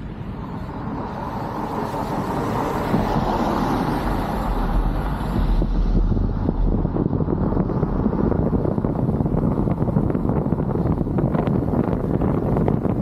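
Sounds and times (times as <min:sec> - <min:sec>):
deep rumble: 0:00.0 - 0:13.0
wind and road noise rushing: 0:00.0 - 0:13.0.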